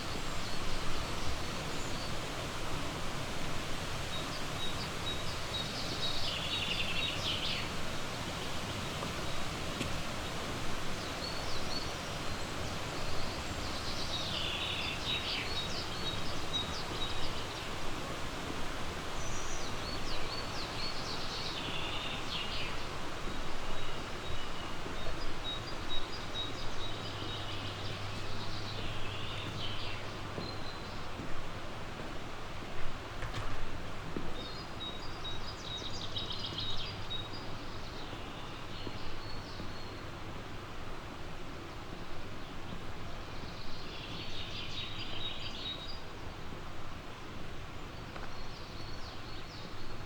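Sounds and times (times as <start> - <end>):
songbirds singing: 3.5 - 31.3, 34.2 - 40.3, 42.4 - 46.4, 47.7 - 50.0.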